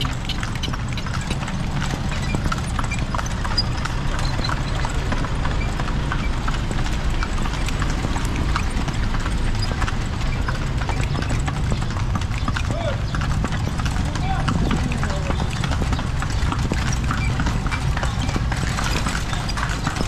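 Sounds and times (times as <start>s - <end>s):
horse hooves clip-clopping on street: 0.0s - 20.0s.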